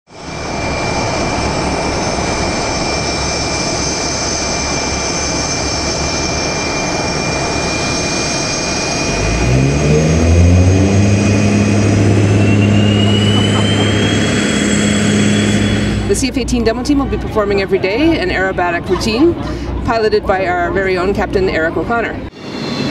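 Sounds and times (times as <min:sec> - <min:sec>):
jet engines whining: 0:00.1 - 0:22.9
deep hum rising in pitch: 0:00.2 - 0:22.9.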